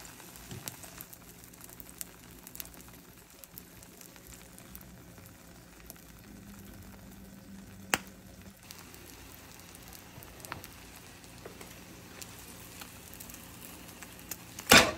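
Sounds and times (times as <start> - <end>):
omelette sizzling in pan: 0.0 - 14.9.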